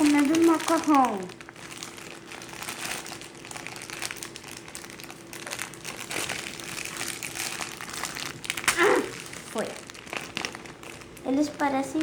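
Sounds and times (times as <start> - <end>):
faint steady hum: 0.0 - 12.0
plastic packaging crinkling: 0.0 - 12.0.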